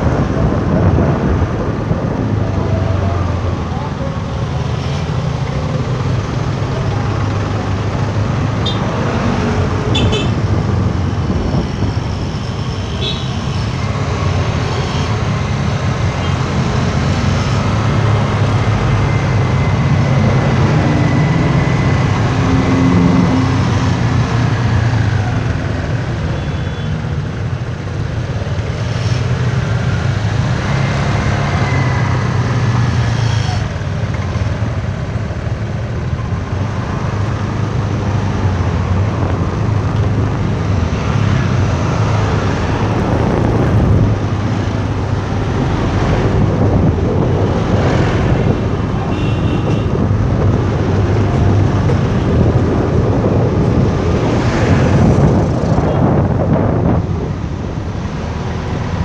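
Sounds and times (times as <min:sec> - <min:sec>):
motorbike engines humming: 0:00.0 - 0:59.0
scooters and cars in traffic: 0:00.0 - 0:59.0.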